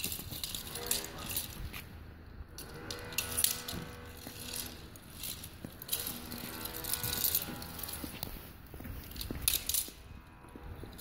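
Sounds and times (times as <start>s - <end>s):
toy stroller wheels rattling: 0.0s - 1.9s, 2.6s - 11.0s
steady droning tone: 0.1s - 8.7s, 9.3s - 11.0s.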